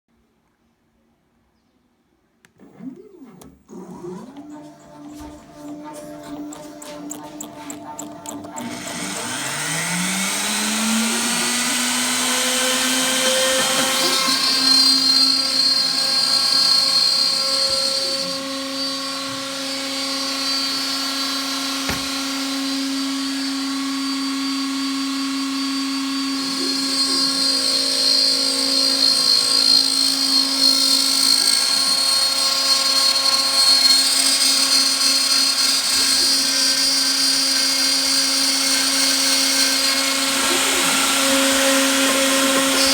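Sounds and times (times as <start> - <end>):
router spindle motor whine: 2.6 - 42.9.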